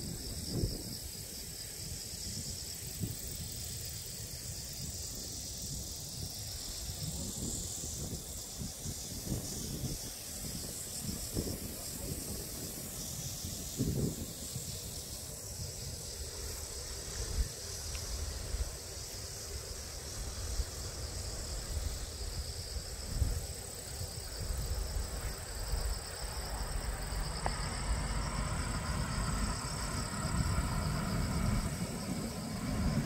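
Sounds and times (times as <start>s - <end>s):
insects chirring: 0.0s - 33.0s
wind rumbling on microphone: 0.0s - 33.0s.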